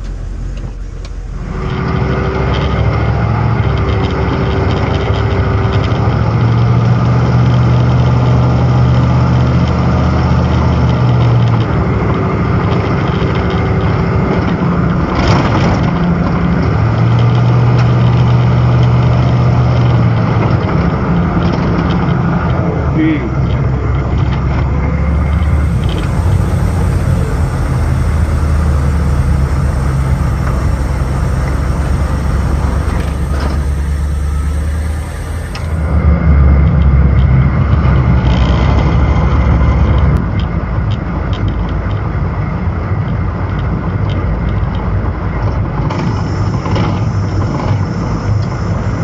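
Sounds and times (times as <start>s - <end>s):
diesel truck engine running: 0.0s - 49.0s
road noise: 0.0s - 49.0s.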